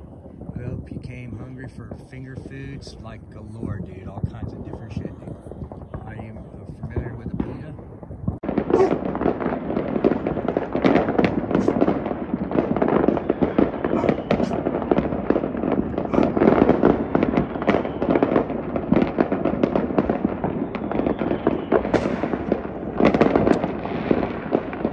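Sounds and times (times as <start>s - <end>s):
fireworks popping and banging: 0.0s - 24.9s.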